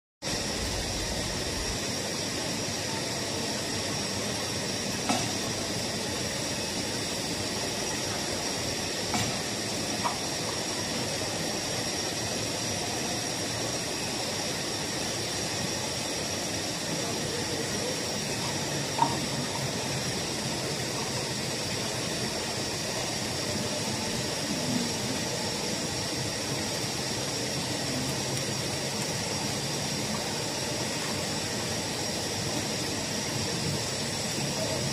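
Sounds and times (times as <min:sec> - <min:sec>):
extrusion machine mechanical hiss: 0:00.3 - 0:34.9
faint high whine: 0:00.3 - 0:34.9.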